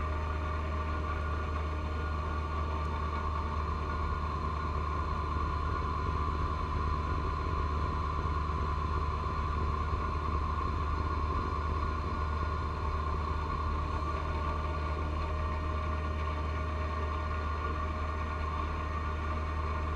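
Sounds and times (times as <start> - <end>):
tractor diesel engine drone: 0.0 - 19.9.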